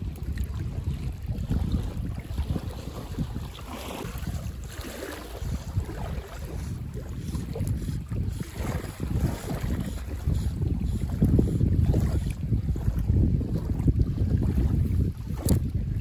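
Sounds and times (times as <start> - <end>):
small waves lapping: 0.0 - 16.0
wind buffeting microphone: 0.0 - 16.0.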